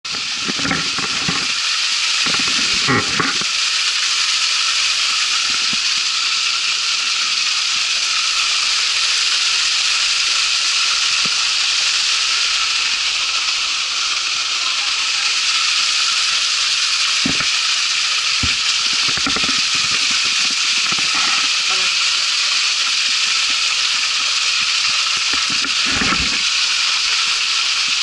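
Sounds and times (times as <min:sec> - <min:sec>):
waterfall hissing: 0:00.0 - 0:28.0.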